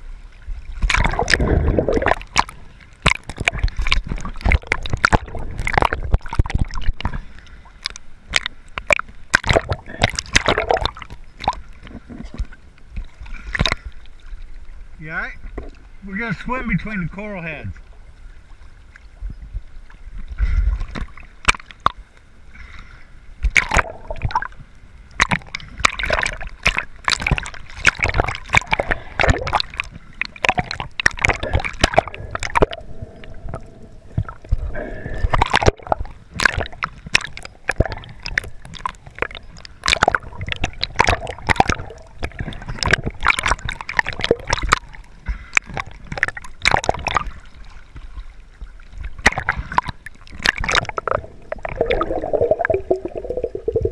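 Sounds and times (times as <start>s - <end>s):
water splashing and gurgling: 0.0s - 53.9s.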